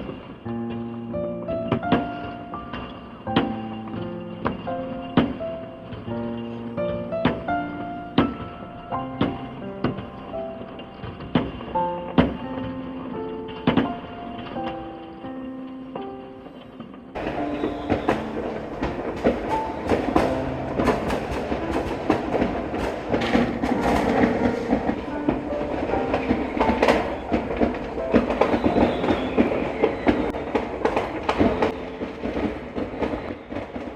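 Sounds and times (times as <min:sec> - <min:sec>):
fireworks bangs and crackles: 0:00.0 - 0:00.5, 0:01.6 - 0:06.2, 0:07.1 - 0:15.3, 0:16.4 - 0:33.9.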